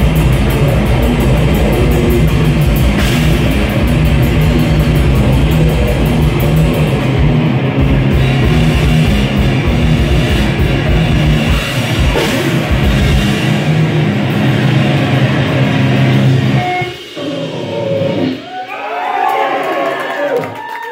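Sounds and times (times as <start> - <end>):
live heavy band playing: 0.0 - 18.7.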